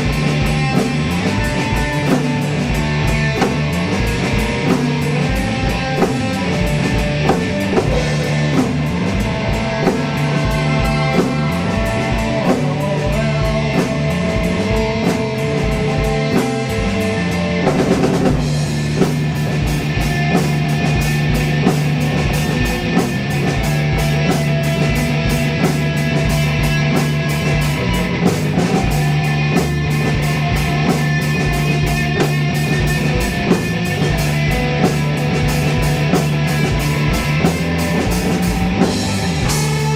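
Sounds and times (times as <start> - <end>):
drum kit: 0.0 - 39.9
electric guitar: 0.0 - 39.9
low bass line: 0.0 - 39.9.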